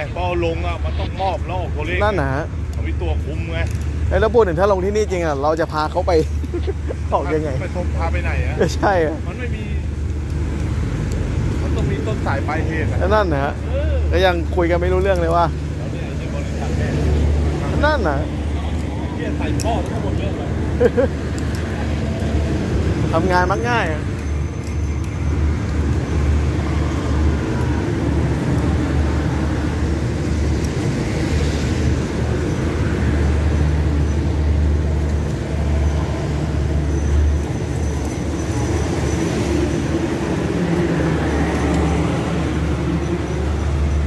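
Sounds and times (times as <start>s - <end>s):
diesel train rumbling: 0.0s - 44.0s.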